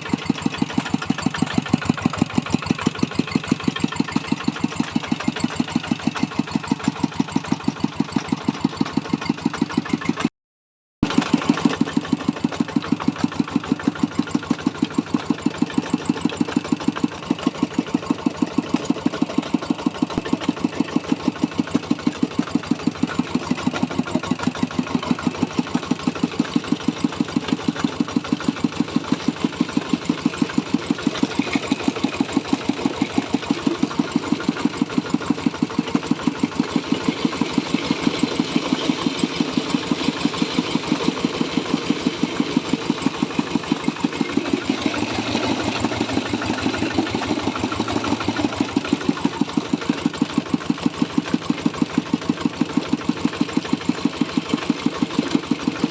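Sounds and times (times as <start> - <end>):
diesel engine pulsing: 0.0 - 10.3, 11.0 - 55.9.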